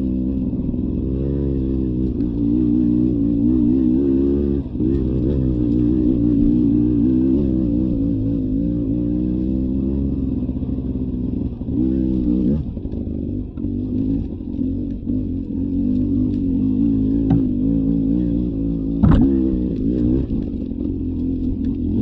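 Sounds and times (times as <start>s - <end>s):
dirt bike engine revving: 0.0s - 10.3s, 11.5s - 22.0s.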